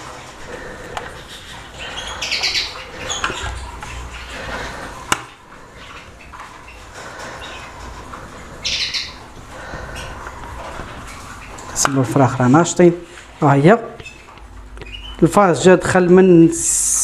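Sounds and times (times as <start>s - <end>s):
chicks chirping: 0.0s - 15.7s.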